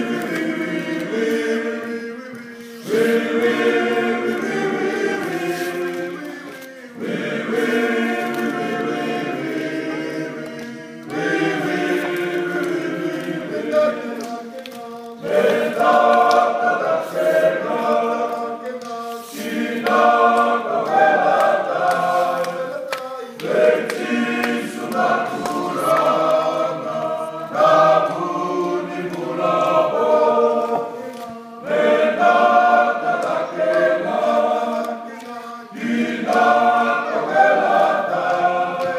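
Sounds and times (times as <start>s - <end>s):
men's choir singing in harmony: 0.0s - 38.9s.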